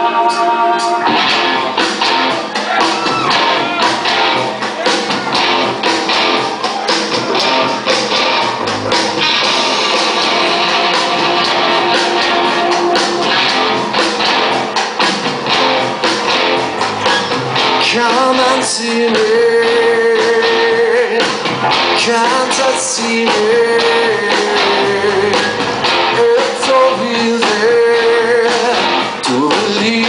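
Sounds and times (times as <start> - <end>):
drums with steady beat: 0.0 - 30.0
strummed electric guitar: 0.0 - 30.0.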